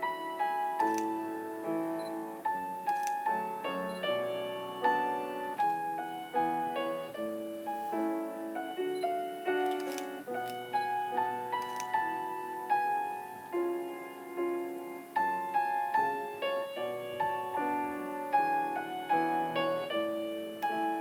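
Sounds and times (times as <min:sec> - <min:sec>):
solo piano playing: 0:00.0 - 0:21.0.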